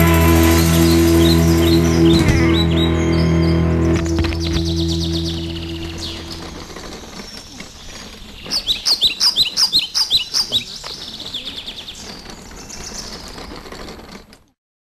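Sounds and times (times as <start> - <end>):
songbird chirping: 0.0 - 13.7.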